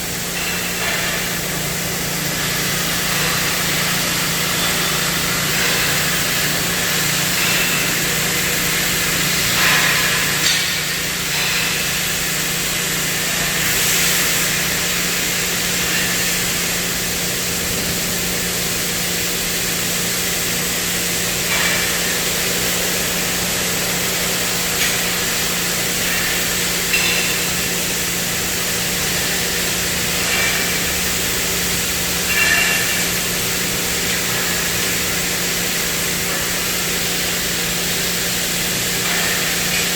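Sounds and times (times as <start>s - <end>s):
metal cutting machine hissing: 0.0s - 39.9s.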